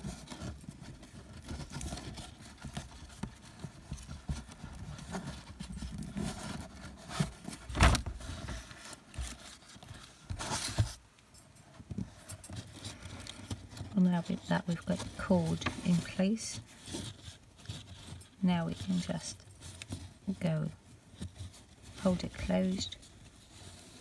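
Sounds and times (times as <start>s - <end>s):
blind cord rustling: 0.0s - 24.0s.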